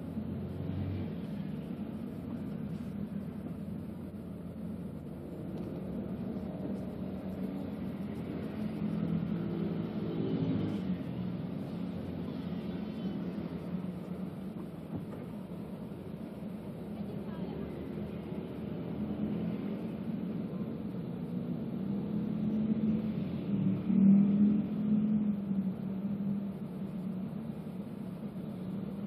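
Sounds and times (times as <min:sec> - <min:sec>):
car engine rumble: 0:00.0 - 0:29.0
road traffic: 0:00.0 - 0:29.0.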